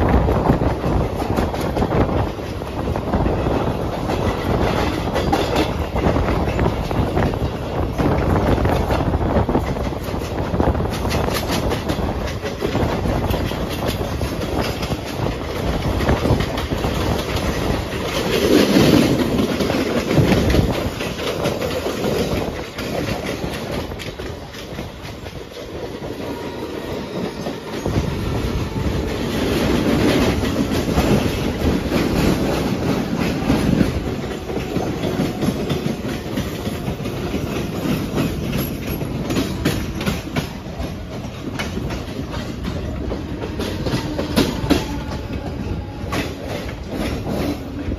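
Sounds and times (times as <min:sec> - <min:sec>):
train wheels clickety-clack: 0:00.0 - 0:47.9.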